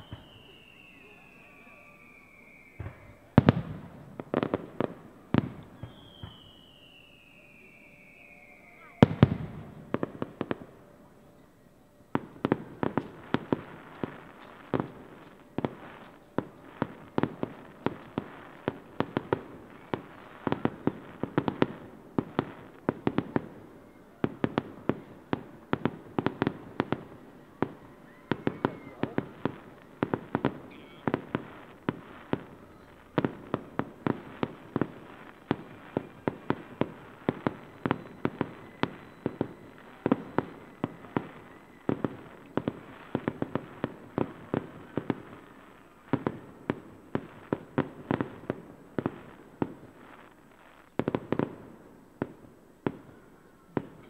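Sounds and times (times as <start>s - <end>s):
fireworks bangs: 0.0s - 11.0s, 12.1s - 54.0s.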